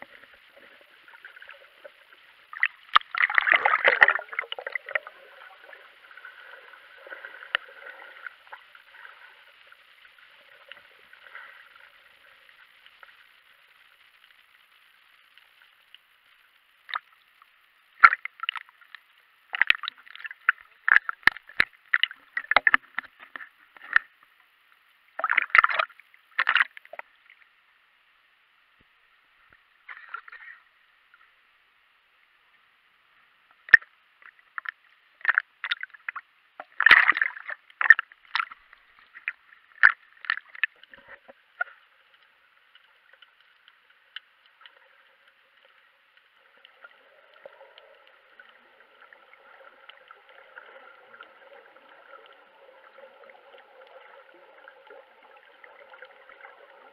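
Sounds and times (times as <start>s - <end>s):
water splashing against camera: 0.0s - 16.0s, 16.8s - 24.3s, 25.2s - 27.1s, 33.6s - 56.9s
muffled underwater hiss: 0.0s - 56.9s.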